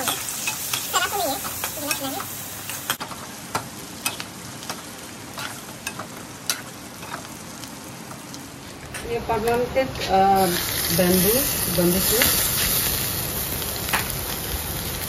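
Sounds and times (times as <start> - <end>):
meat and vegetables sizzling in oil: 0.0 - 15.0.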